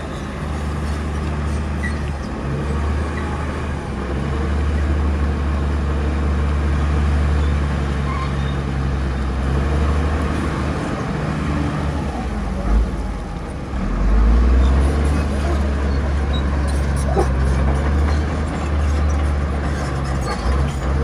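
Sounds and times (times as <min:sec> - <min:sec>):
bulldozer diesel engine drone: 0:00.0 - 0:21.0.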